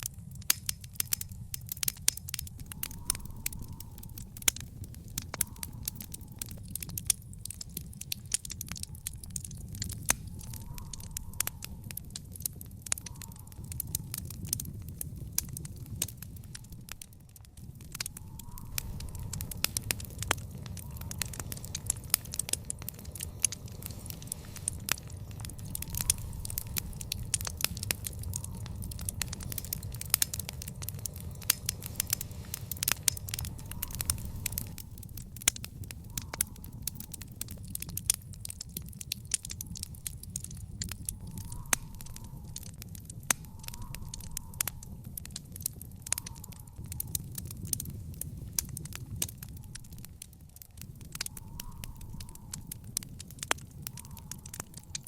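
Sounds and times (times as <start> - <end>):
low rumble: 0.0 - 46.2
wood fire crackling and popping: 0.0 - 55.0.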